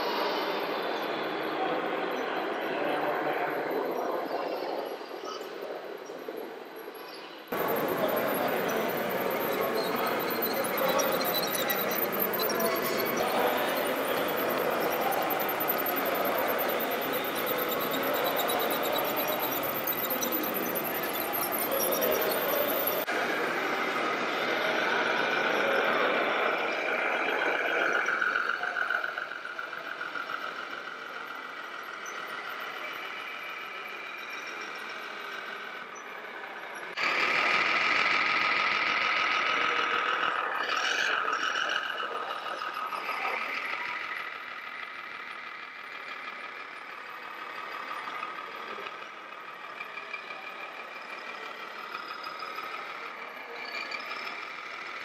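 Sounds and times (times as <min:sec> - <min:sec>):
simulated diesel truck engine: 0:07.5 - 0:55.0.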